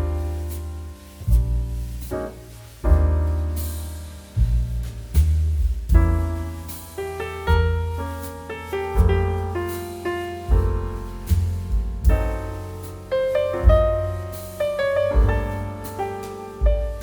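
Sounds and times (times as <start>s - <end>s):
piano chords and bass notes: 0.0s - 17.0s.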